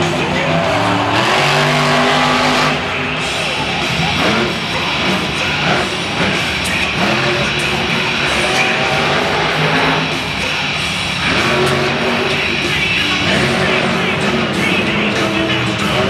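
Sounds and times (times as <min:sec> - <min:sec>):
loud stadium music: 0:00.0 - 0:16.0
monster truck engine revving: 0:00.0 - 0:16.0.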